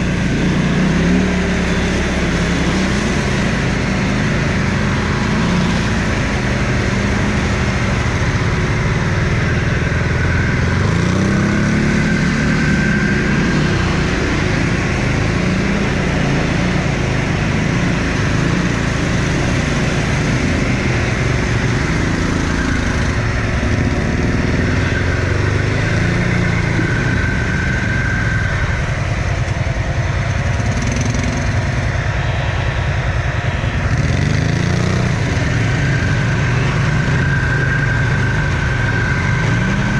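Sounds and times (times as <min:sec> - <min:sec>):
quad bike engine revving: 0:00.0 - 0:31.9, 0:33.8 - 0:39.9.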